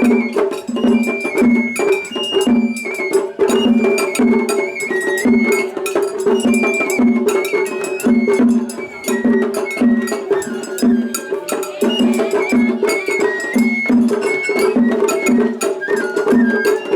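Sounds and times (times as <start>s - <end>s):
bamboo flute melody: 0.0s - 16.9s
taiko drums striking fast: 0.0s - 16.9s.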